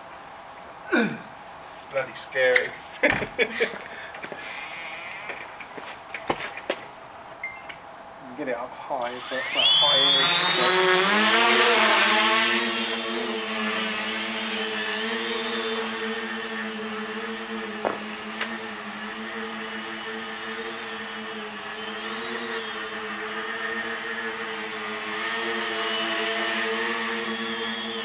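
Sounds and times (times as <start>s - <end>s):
drone propellers buzzing: 3.1s - 6.9s, 8.8s - 28.0s.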